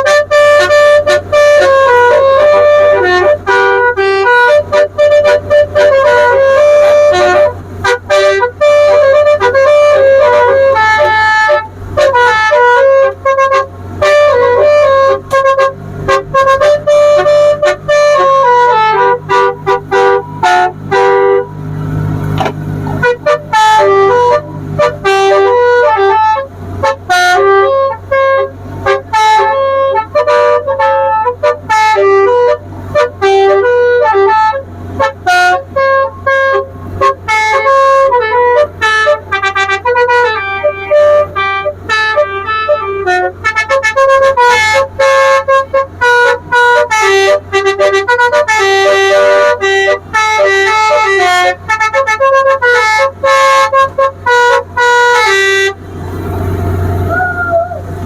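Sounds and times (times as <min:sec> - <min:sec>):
musical horn playing a tune: 0:00.0 - 0:55.8.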